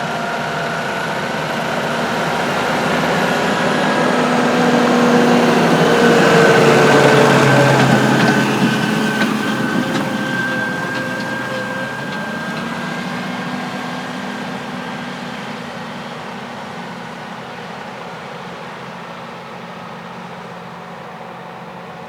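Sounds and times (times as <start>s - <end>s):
farm machine engine whine: 0.0s - 22.0s.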